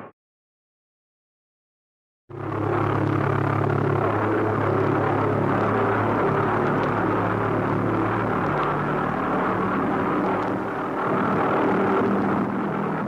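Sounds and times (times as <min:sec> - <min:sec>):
pulsejet engine droning: 0:02.3 - 0:13.0.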